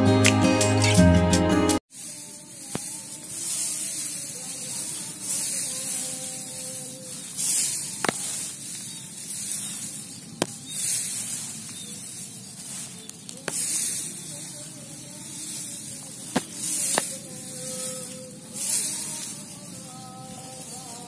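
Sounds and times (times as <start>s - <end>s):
grass leaves rustling: 1.9s - 21.0s.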